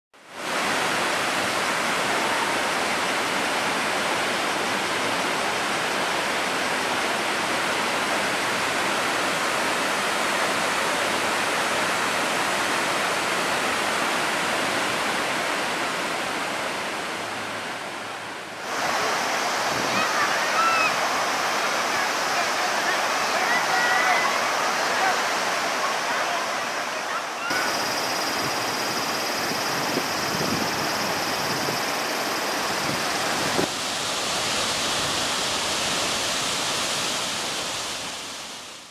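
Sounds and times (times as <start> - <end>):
wider waterfall rushing: 0.2 - 38.9
waterfall rushing: 0.3 - 38.9.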